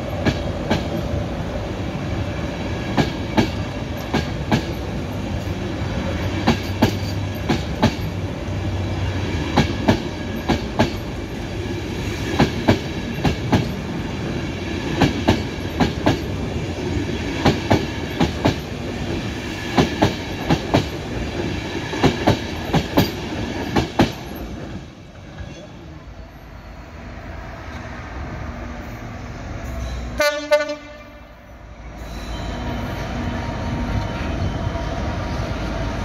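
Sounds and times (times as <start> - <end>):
train coaches rumbling past: 0.0 - 36.0.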